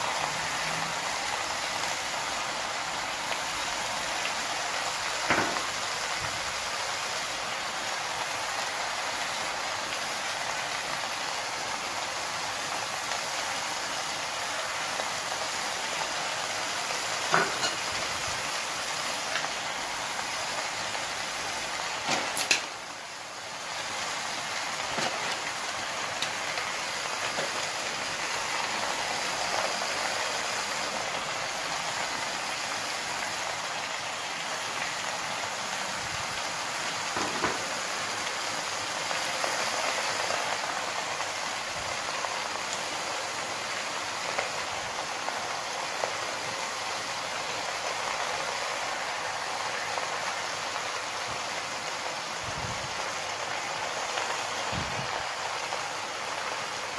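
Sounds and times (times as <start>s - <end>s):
pot sizzling on stove: 0.0s - 56.9s.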